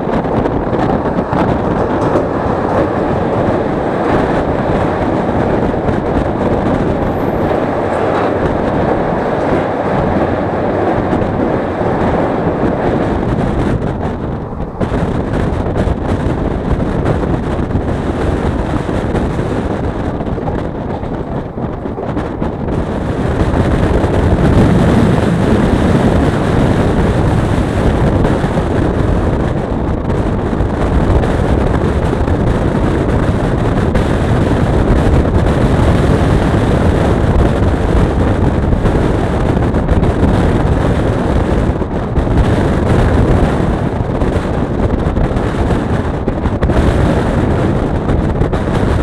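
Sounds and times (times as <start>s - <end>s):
train wheels rumbling on rails: 0.0s - 49.0s
wind buffeting microphone: 0.0s - 49.0s.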